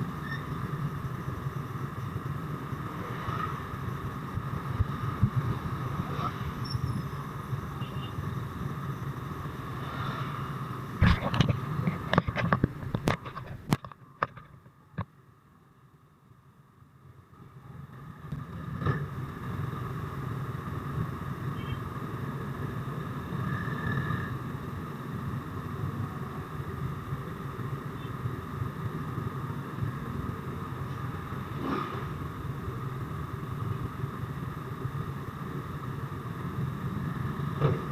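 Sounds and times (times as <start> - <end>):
motorcycle engine and road hum: 0.0 - 37.9.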